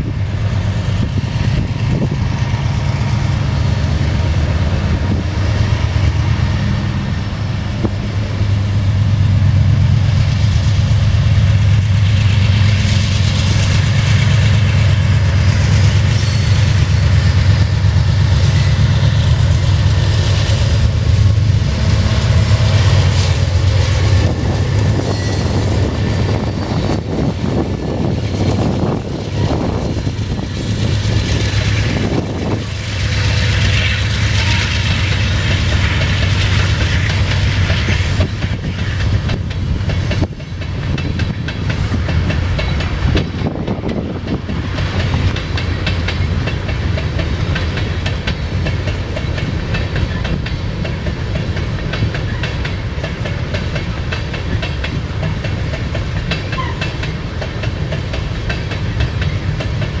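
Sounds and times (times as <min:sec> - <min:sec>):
diesel locomotive engines: 0:00.0 - 1:00.0
train wheels clacking on rails: 0:00.0 - 1:00.0.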